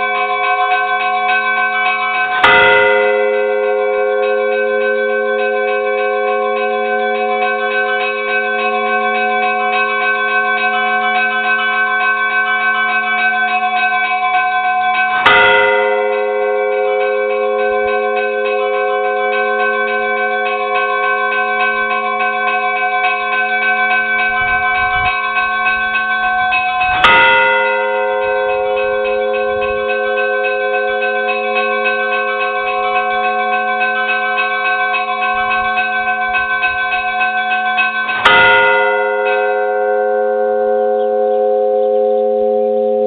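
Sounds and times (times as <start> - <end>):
heavy bell strokes: 0.0 - 43.0
small church bells ringing: 0.0 - 43.0.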